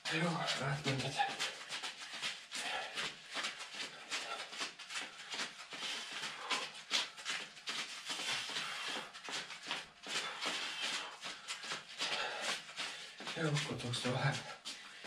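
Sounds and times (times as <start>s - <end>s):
scuffing and rustling on concrete: 0.0s - 15.0s.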